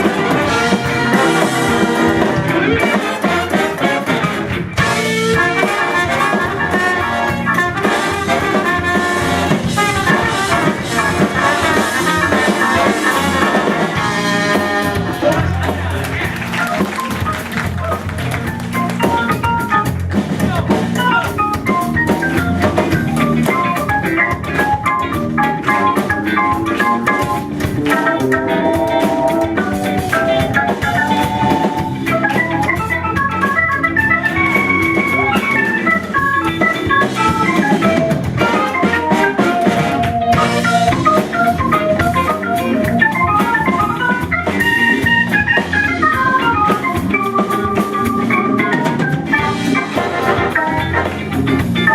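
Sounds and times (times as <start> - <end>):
drum kit: 0.0 - 51.9
live funk band playing: 0.0 - 51.9
organ melodic runs: 0.0 - 51.9.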